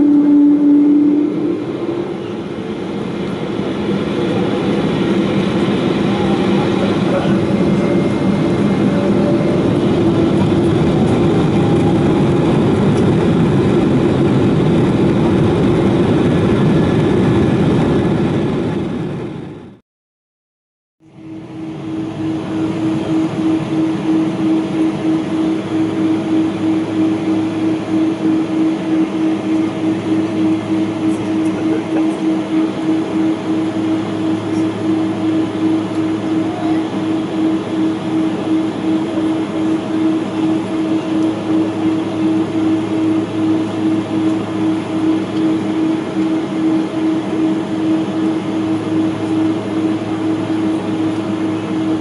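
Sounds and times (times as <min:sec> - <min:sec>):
airplane cabin engine hum: 0:00.0 - 0:19.8, 0:21.0 - 0:52.0
pulsing rolling rumble: 0:00.0 - 0:19.8, 0:21.0 - 0:52.0.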